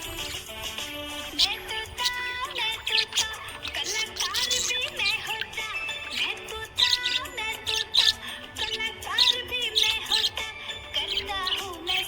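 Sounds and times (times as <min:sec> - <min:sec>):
budgerigars warbling and chattering: 0:00.0 - 0:12.0.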